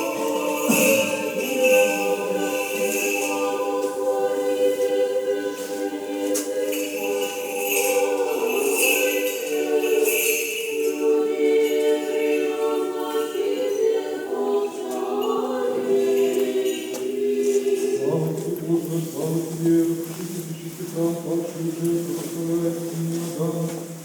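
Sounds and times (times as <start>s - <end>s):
choir singing unaccompanied: 0.0s - 24.0s.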